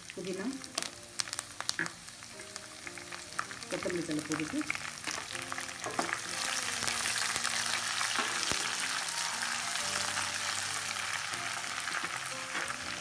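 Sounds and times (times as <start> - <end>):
leaves sizzling in hot oil: 0.0 - 13.0.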